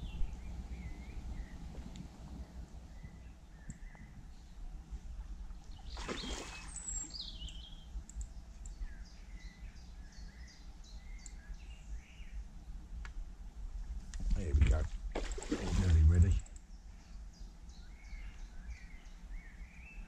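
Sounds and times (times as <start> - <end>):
small birds chirping: 0.0 - 13.1, 14.2 - 20.0
low steady rumble: 0.0 - 20.0.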